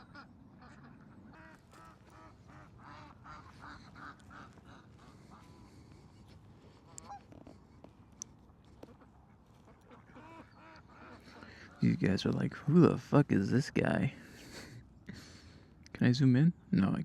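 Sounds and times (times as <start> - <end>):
geese honking: 0.0 - 14.6.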